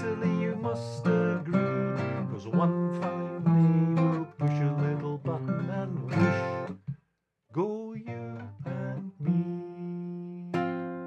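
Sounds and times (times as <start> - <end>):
man singing: 0.0 - 6.8, 7.5 - 10.8
strummed acoustic guitar: 0.0 - 7.0, 7.6 - 11.0.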